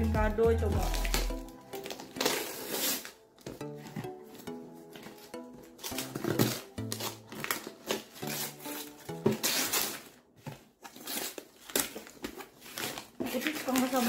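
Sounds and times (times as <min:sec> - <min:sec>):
wrapping paper tearing and crumpling: 0:00.8 - 0:03.6, 0:04.4 - 0:14.0.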